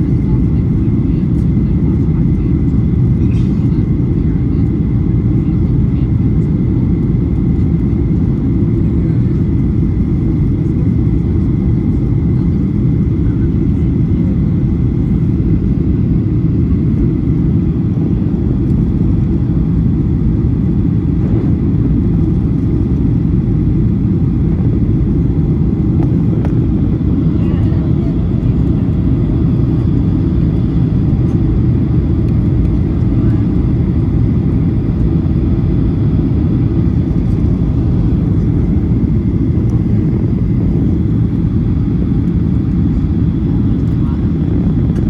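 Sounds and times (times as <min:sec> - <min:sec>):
jet engine rumble in cabin: 0:00.0 - 0:45.0.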